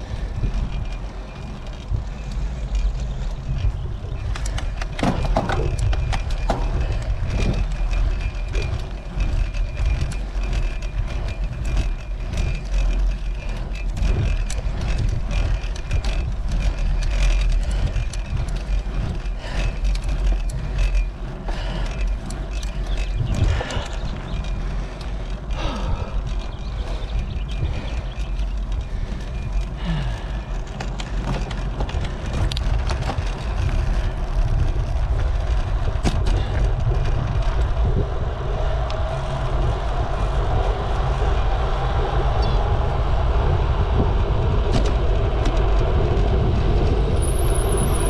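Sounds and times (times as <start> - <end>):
bicycle tyre and road noise: 0.0 - 48.0
wind buffeting microphone: 0.0 - 48.0.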